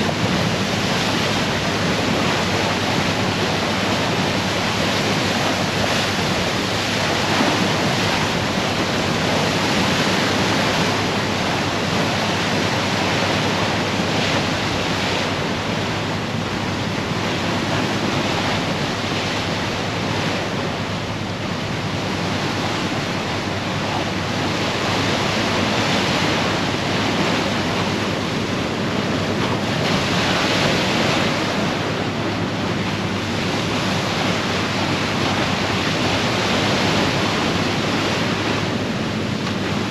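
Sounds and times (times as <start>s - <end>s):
water rushing along ship bow: 0.0s - 39.9s
wind on microphone: 0.0s - 39.9s.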